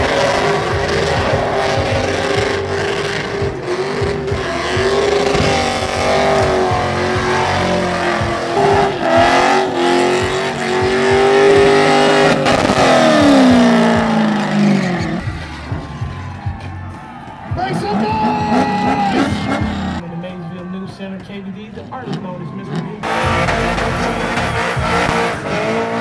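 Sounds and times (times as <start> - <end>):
truck engine revving: 0.0 - 20.0, 22.0 - 26.0.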